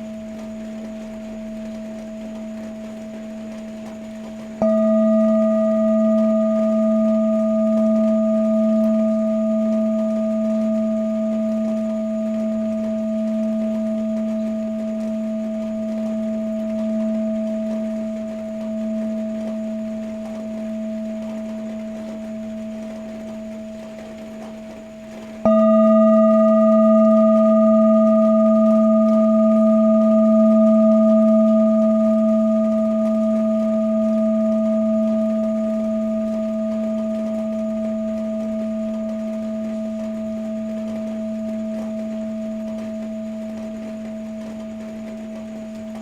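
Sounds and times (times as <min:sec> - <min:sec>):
singing bowl ringing: 0:00.0 - 0:46.0.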